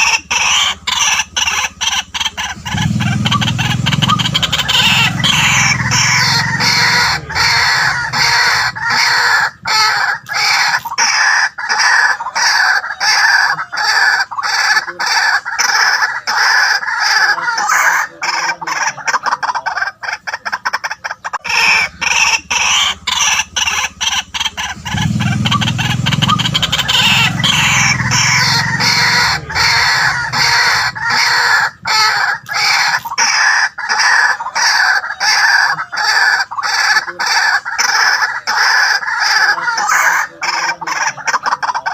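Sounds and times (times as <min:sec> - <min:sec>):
waterhen calling harsh notes: 0:00.0 - 0:41.9.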